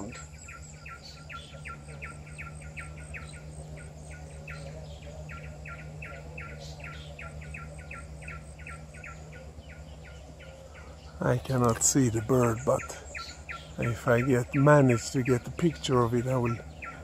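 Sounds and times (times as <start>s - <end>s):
small bird singing repeated notes: 0.0s - 17.0s.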